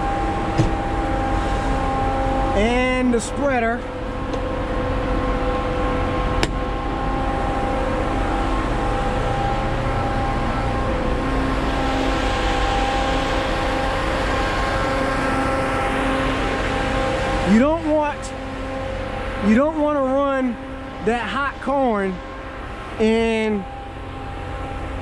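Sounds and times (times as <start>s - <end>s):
grain dryer fan humming: 0.0s - 25.0s.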